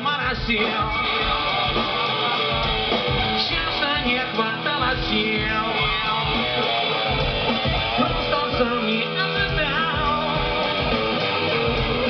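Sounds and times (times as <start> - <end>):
electric guitar: 0.0 - 12.0
rock band playing live: 0.0 - 12.0.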